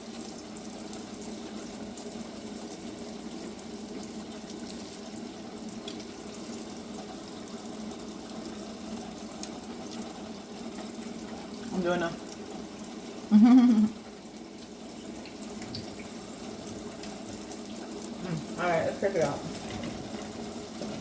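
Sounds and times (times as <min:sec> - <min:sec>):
hot oil sizzling in a frying pan: 0:00.0 - 0:21.0.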